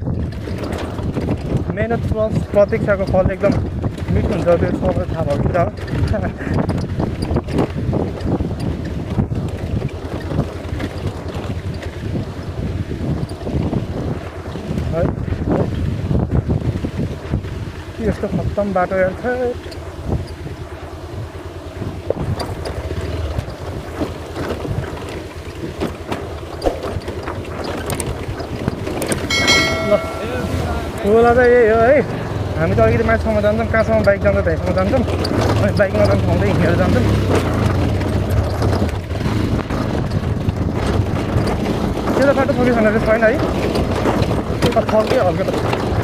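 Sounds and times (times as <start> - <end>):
motorcycle riding on rough trail: 0.0 - 46.0
wind rumble on microphone: 0.0 - 46.0.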